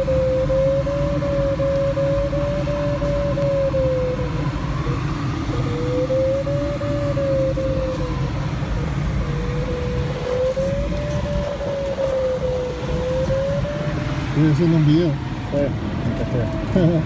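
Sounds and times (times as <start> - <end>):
variometer tone sliding in pitch: 0.0 - 15.2
airflow rushing in cockpit: 0.0 - 17.0.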